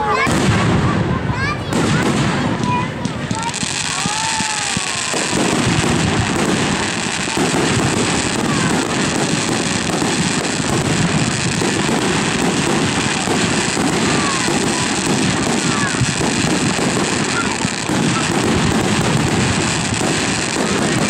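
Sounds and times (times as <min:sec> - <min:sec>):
fireworks bursting: 0:00.0 - 0:21.0
sharp fireworks bangs: 0:00.0 - 0:21.0.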